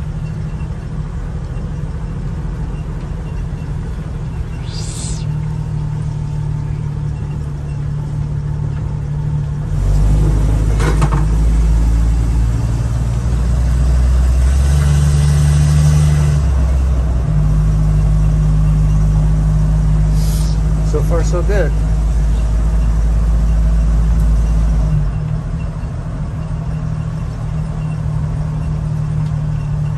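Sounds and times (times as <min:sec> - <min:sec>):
car engine running while driving: 0:00.0 - 0:29.9.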